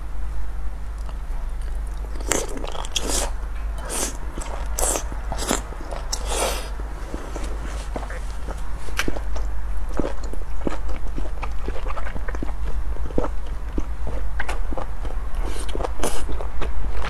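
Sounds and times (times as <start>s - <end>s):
steady low hum: 0.0s - 17.0s
person biting and chewing food: 0.9s - 17.0s.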